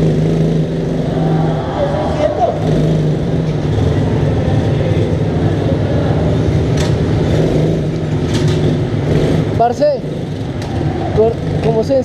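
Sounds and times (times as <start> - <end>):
minibike engines idling: 0.0 - 12.0.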